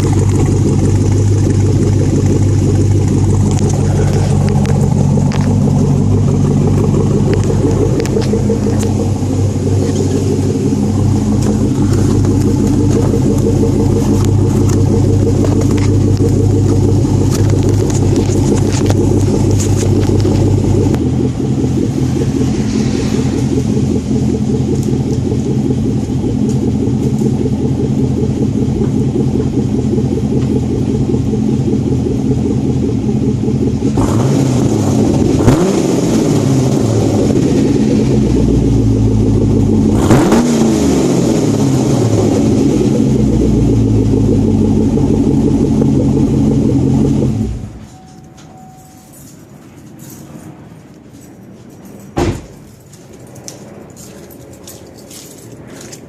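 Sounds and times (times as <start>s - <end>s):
car engine idling loudly: 0.0s - 48.0s.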